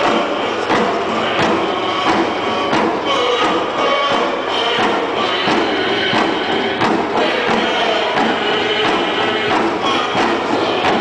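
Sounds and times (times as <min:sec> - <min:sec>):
crowd hubbub: 0:00.0 - 0:11.0
drums beating steadily: 0:00.0 - 0:11.0
group of voices singing: 0:00.0 - 0:11.0.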